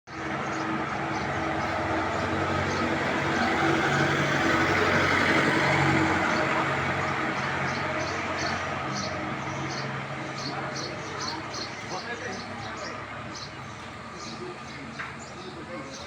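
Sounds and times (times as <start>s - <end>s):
engine-like hum: 0.1s - 16.0s.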